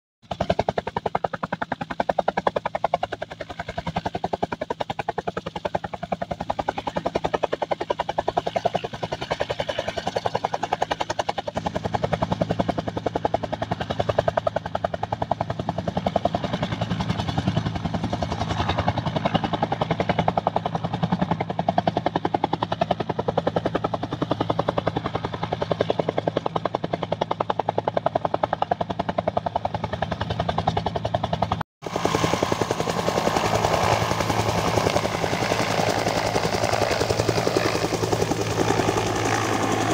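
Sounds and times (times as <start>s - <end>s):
helicopter rotor beating: 0.2s - 39.9s.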